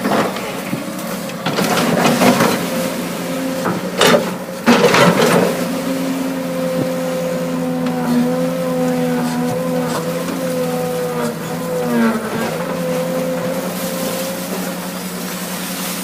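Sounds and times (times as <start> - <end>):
diesel engine running: 0.0 - 16.0
rough digging bursts: 0.0 - 16.0.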